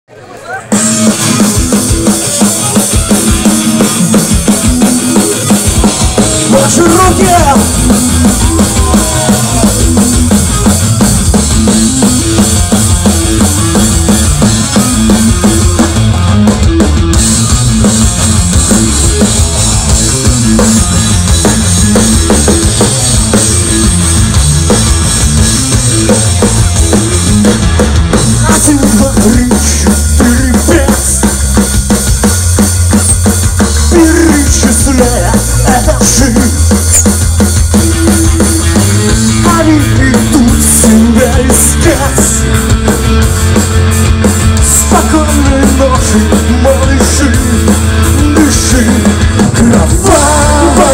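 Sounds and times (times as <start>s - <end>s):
loud rock music: 0.6s - 50.9s
driving drum kit: 0.7s - 50.9s.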